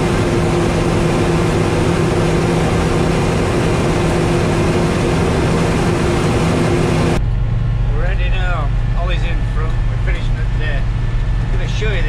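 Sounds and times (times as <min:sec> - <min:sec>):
combine harvester machinery drone: 0:00.0 - 0:12.0.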